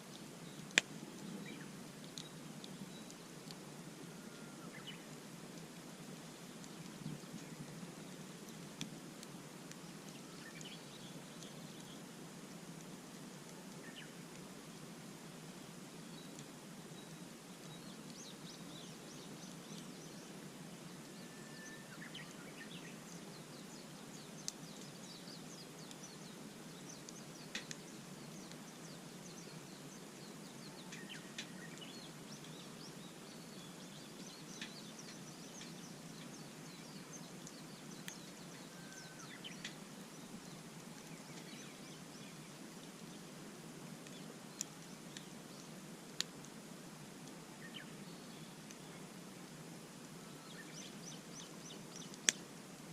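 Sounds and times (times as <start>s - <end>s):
campfire crackling and popping: 0.0s - 52.9s
small birds chirping: 0.1s - 12.2s, 12.8s - 14.9s, 15.5s - 52.9s.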